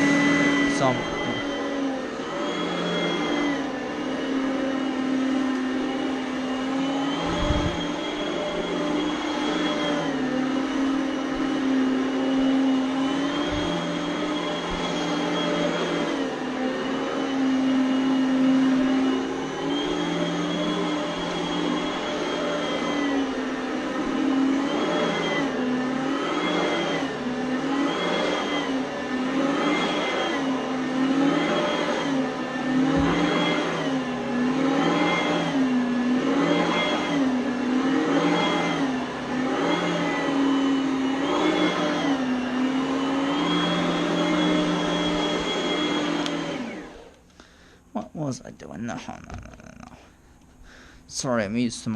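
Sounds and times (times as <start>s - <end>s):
upright vacuum cleaner running: 0.0s - 49.9s.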